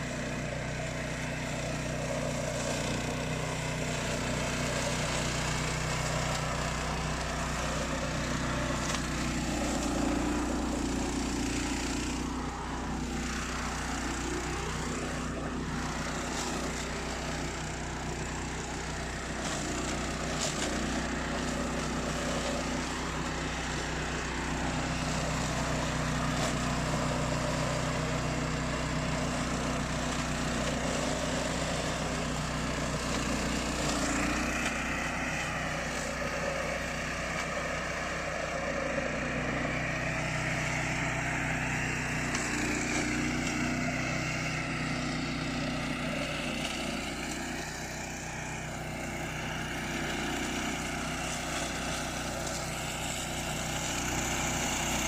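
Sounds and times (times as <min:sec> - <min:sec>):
mower engine humming: 0:00.0 - 0:55.0.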